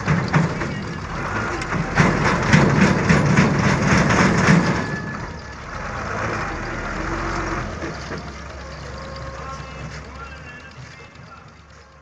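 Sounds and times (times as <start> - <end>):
heavy truck engine under load: 0.0 - 12.0.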